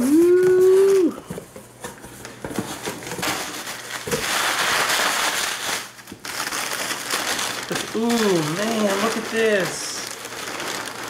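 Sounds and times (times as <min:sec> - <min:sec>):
bubble wrap and paper crinkling: 0:00.0 - 0:11.0.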